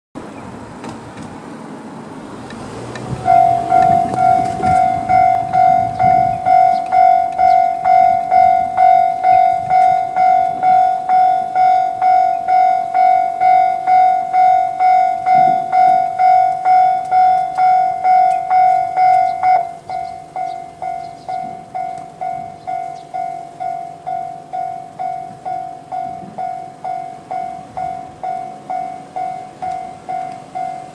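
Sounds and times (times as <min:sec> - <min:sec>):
level crossing electronic bell: 0:03.2 - 0:30.9.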